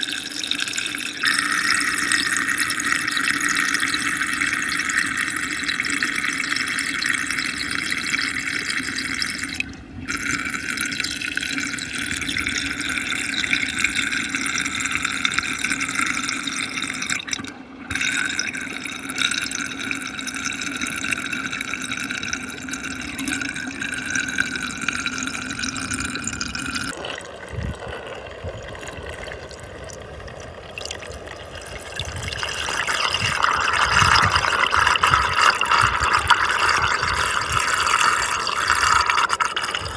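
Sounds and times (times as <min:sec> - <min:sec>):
water swirling down a vortex: 0:00.0 - 0:39.9.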